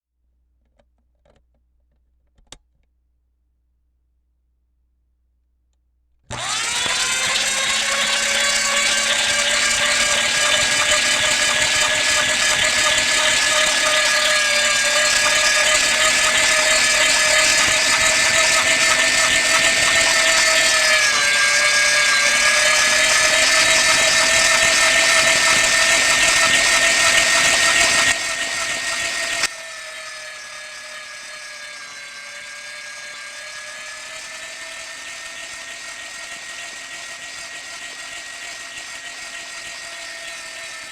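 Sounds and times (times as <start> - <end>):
meat grinder motor whining: 6.3 - 40.9.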